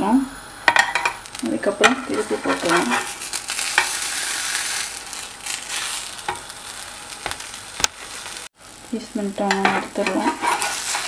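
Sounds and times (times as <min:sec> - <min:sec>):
sandwich sizzling in grill pan: 0:00.5 - 0:11.0.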